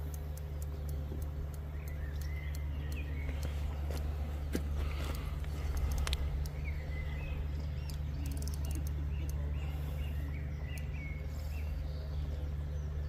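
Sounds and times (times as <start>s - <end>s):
low outdoor rumble: 0.0s - 13.0s
small bird chirping: 0.0s - 13.0s.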